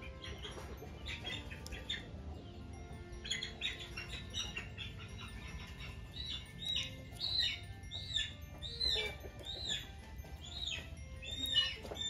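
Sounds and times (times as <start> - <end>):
birds chirping: 0.0 - 12.0
down-slurred whistled bird notes: 0.0 - 12.0.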